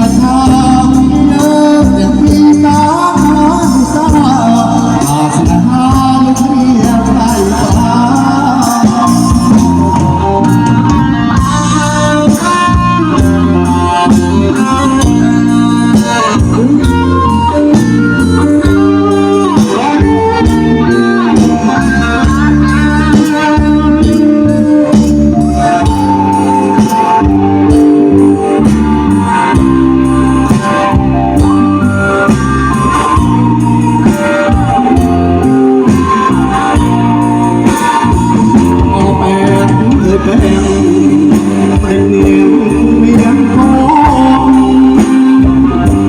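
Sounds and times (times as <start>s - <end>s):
amplified band dance music: 0.0s - 46.0s.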